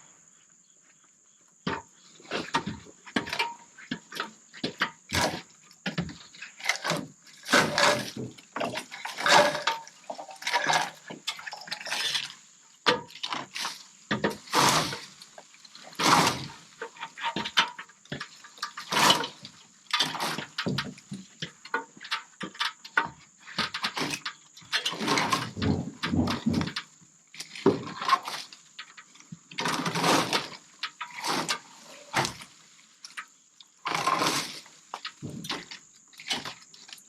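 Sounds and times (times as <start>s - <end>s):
knocks clatters and scrapes: 1.6s - 37.0s.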